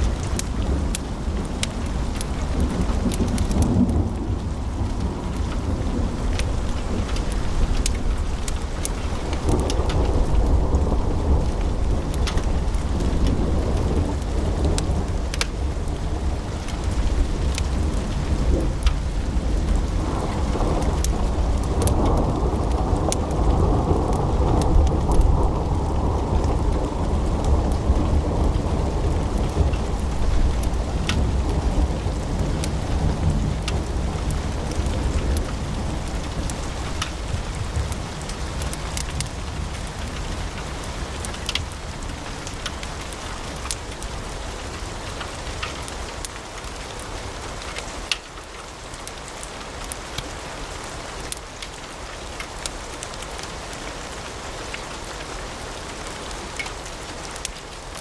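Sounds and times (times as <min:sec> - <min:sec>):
fire crackling and popping: 0:00.0 - 0:58.0
steady hiss of fire: 0:00.0 - 0:58.0.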